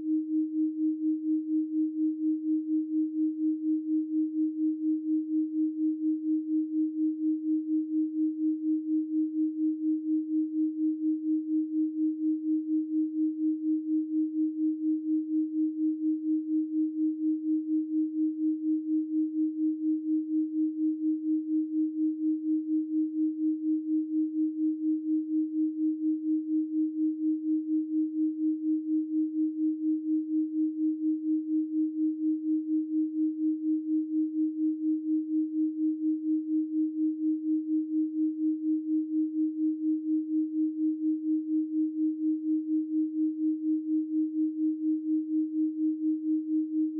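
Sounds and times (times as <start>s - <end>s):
pulsing sine tone: 0.0s - 46.9s.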